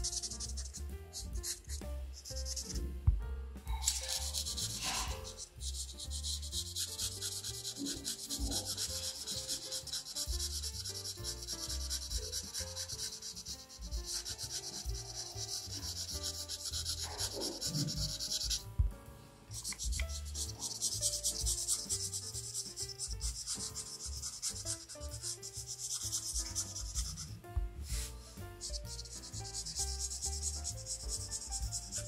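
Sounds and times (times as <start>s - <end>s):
marker rubbing across paper: 0.0s - 3.0s, 3.6s - 18.8s, 19.5s - 32.0s.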